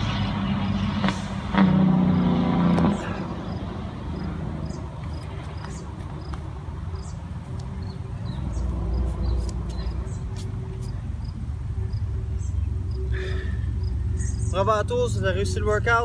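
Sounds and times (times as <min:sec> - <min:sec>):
distant road traffic rumble: 0:00.0 - 0:16.0.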